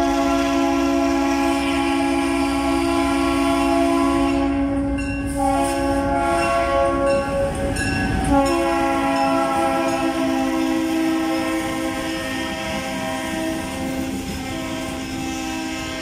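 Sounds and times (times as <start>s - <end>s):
locomotive air horn blasts: 0.0s - 16.0s
locomotive and wheels rumbling: 0.0s - 16.0s.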